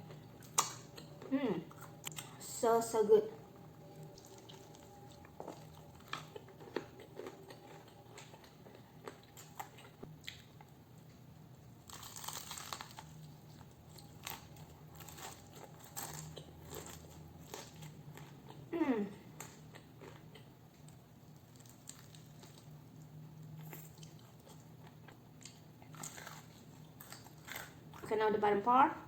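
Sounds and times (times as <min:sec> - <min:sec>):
chewing crunchy fried chicken: 0:00.0 - 0:02.4, 0:03.8 - 0:28.1.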